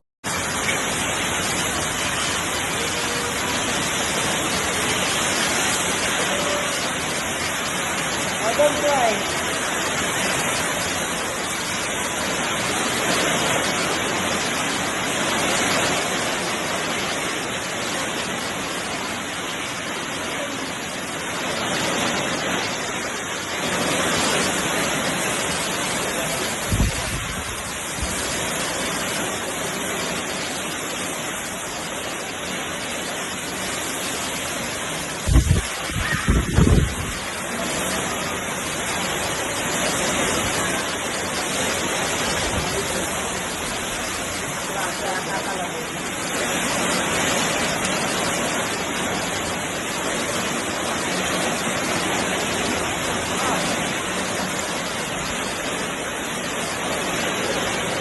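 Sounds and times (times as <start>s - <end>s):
hail and rain pouring: 0.2s - 58.0s.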